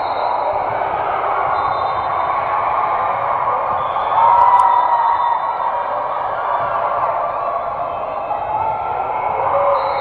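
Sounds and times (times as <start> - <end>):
echoing crowd voices: 0.0 - 10.0.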